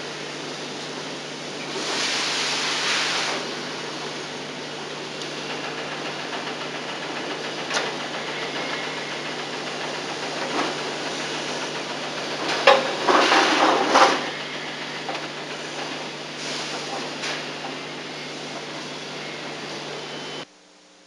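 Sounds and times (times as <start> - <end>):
mechanical whirring and rattling: 3.5 - 20.4.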